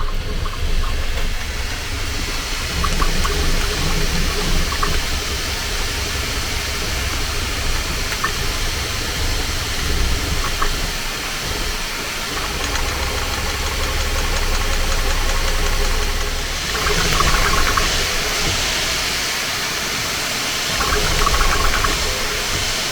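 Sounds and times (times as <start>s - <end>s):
low motor hum: 0.0s - 19.5s
fan hiss: 0.0s - 22.9s.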